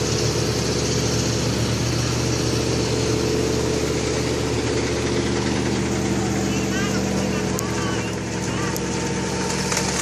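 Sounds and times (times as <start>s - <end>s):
pickup engine running: 0.0s - 10.0s.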